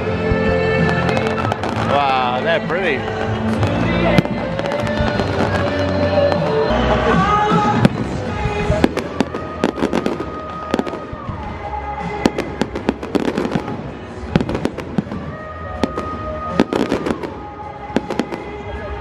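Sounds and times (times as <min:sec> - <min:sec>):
fireworks bangs and crackles: 0:00.0 - 0:19.0
music with long held notes: 0:00.0 - 0:19.0.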